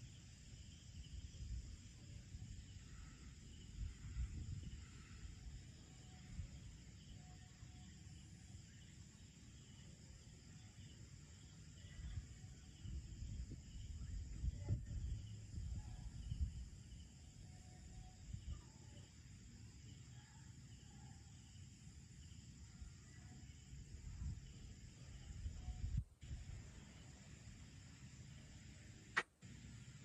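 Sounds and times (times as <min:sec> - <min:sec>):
insect chorus trilling: 0:00.0 - 0:30.0.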